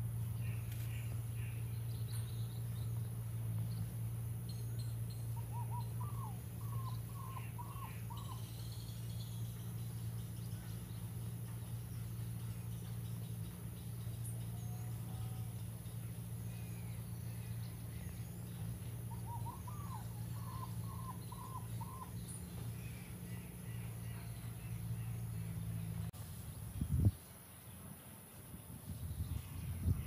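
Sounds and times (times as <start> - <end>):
faint bird calls: 0.0 - 26.1
steady low hum: 0.0 - 30.0.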